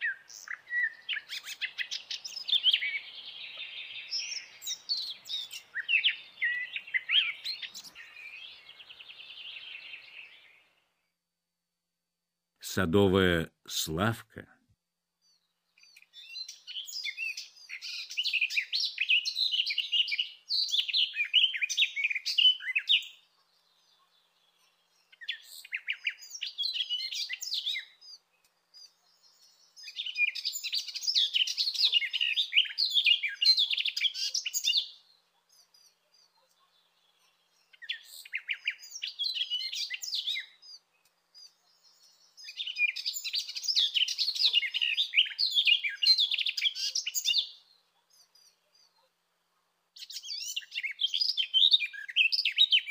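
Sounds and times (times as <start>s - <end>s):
warbler singing: 0.0s - 10.8s, 15.2s - 49.0s, 50.0s - 52.9s.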